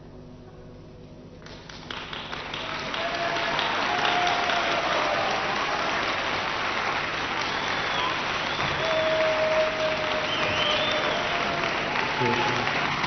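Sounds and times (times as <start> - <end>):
audience applauding: 1.4 - 13.0.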